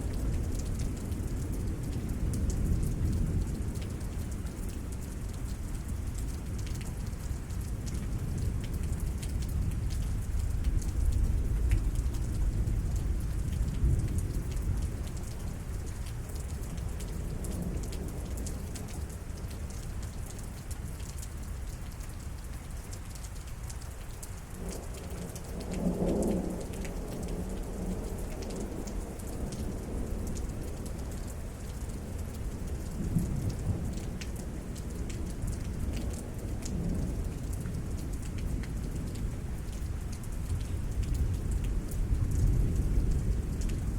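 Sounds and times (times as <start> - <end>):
rain falling with drips: 0.0 - 43.9.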